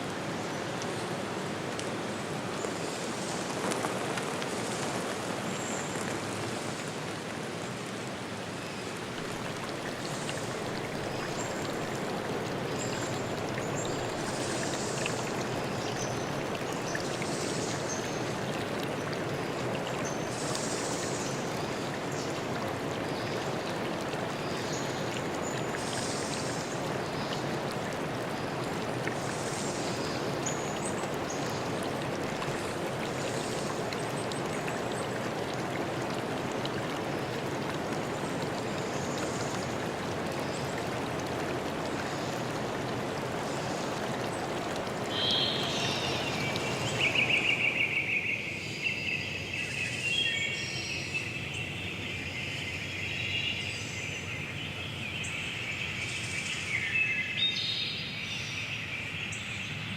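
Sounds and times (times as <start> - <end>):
forest stream rushing: 0.0 - 59.9.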